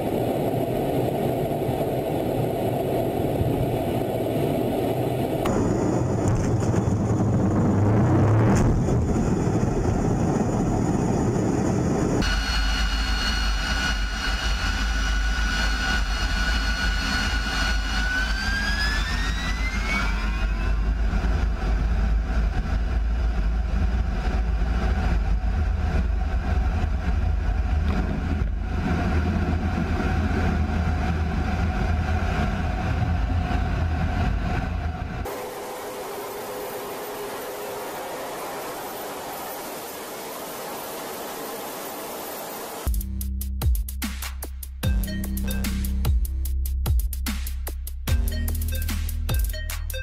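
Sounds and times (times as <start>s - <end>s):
jet engine rumble: 0.0s - 42.9s
jet engine turbine whine: 0.0s - 42.9s.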